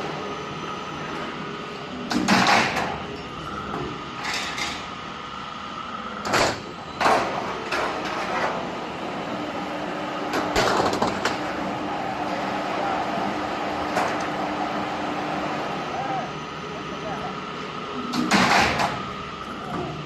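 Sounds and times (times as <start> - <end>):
roll forming machine running: 0.0 - 20.0.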